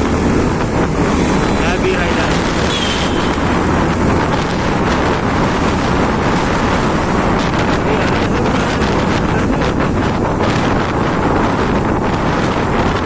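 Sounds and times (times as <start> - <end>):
motorcycle running: 0.0 - 13.0
wind rushing over microphone: 0.0 - 13.0.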